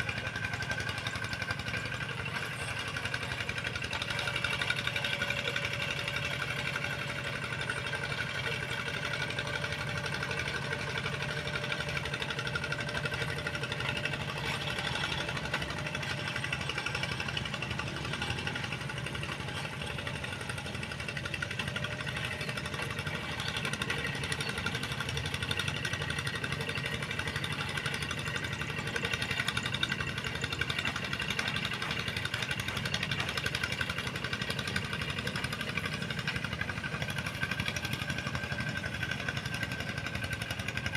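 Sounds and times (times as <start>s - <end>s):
tractor engine knocking: 0.0s - 40.9s.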